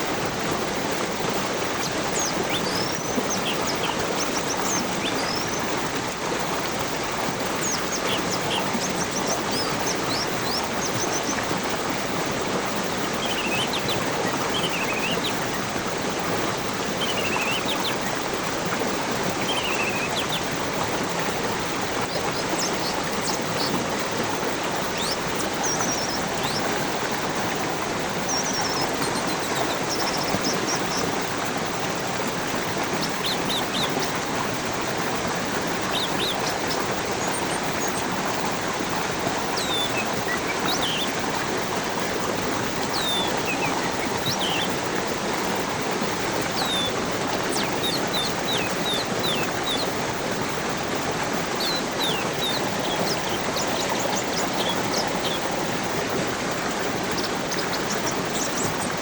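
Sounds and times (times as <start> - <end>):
small birds chirping: 0.0 - 59.0
stream water rushing: 0.0 - 59.0.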